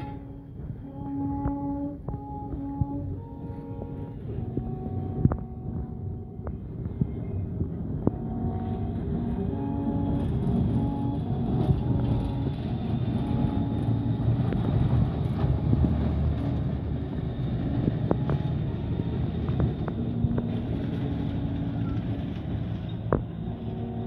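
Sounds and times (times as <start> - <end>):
rack railway train rumbling: 0.0 - 24.0.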